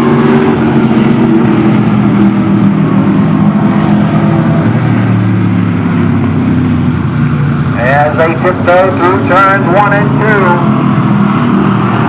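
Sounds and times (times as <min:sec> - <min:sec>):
race car engines at speed: 0:00.0 - 0:12.0.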